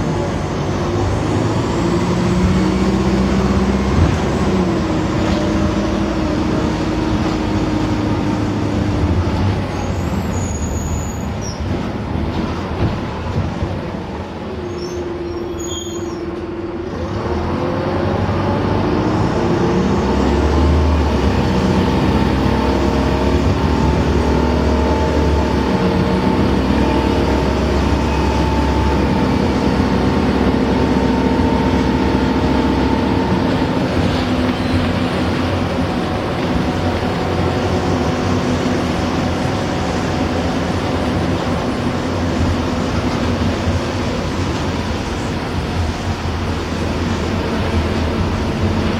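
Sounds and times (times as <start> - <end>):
bus drivetrain whine: 0.0 - 48.9.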